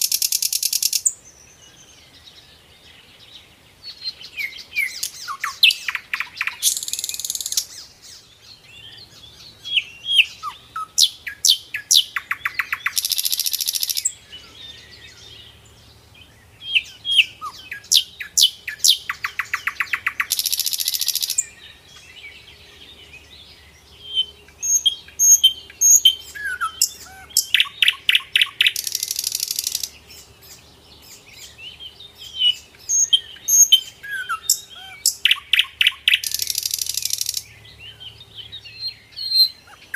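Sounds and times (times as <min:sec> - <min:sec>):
songbirds chirping: 0:00.0 - 0:39.9
loud buzzy bird trill: 0:03.9 - 0:39.9.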